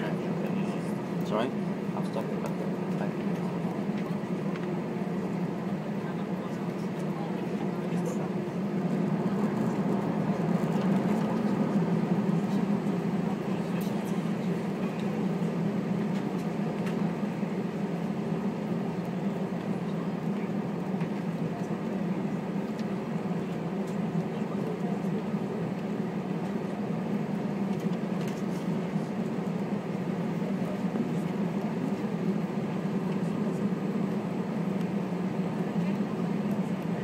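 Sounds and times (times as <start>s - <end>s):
aircraft cabin engine hum: 0.0s - 37.0s.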